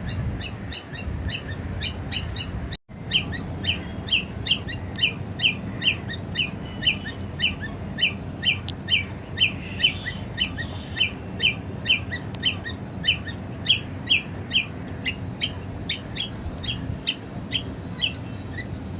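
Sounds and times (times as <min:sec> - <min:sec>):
squirrel chirping: 0:00.0 - 0:18.8.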